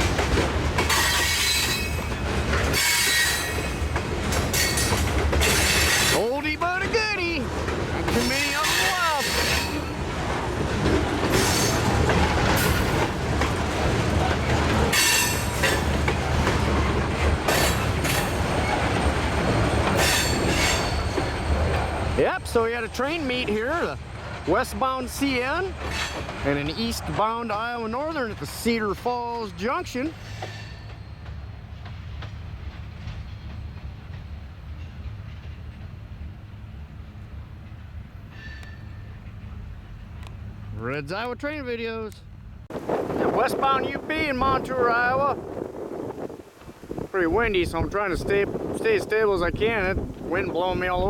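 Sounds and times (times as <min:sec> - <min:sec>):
steel wheels rumbling on rail: 0:00.0 - 0:51.0.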